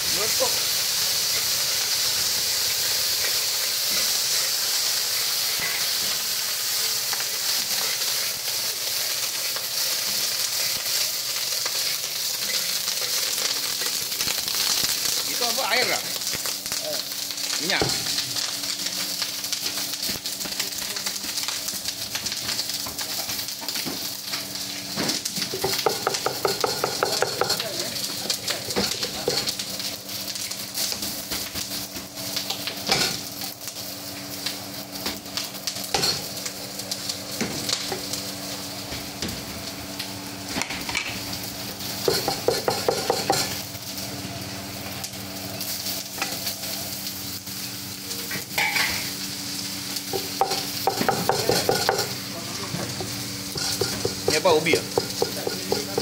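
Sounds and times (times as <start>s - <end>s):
food sizzling in a wok: 0.0s - 56.0s.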